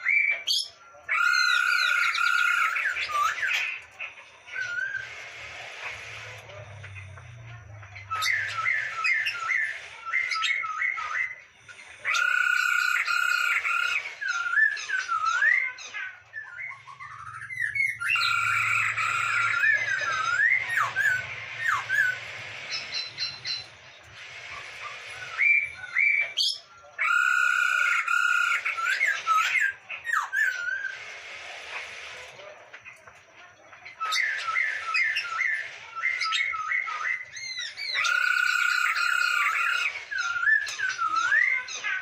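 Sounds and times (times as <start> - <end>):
laughingthrush singing: 0.0 - 33.1, 33.8 - 42.0.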